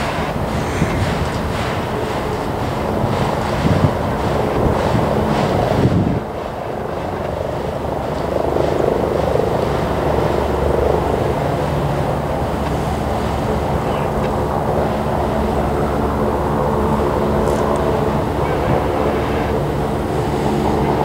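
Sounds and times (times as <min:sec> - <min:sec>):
train wheels rumbling on rails: 0:00.0 - 0:21.0
wind buffeting microphone: 0:00.0 - 0:21.0.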